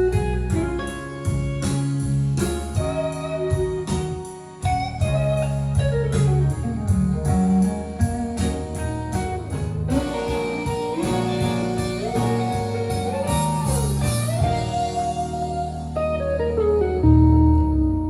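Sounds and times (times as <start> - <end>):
guitar music over loudspeakers: 0.0 - 18.0
steady bass line: 0.0 - 18.0.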